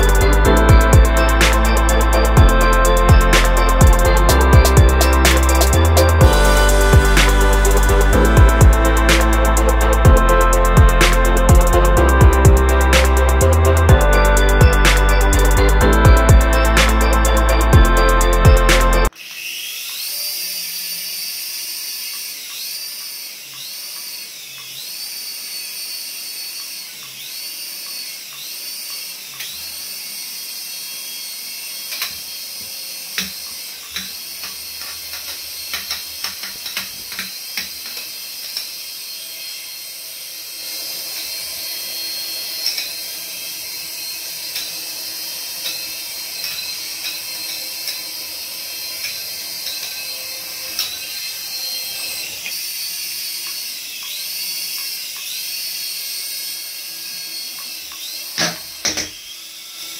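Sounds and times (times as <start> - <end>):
toy helicopter motors whining: 0.0 - 59.9.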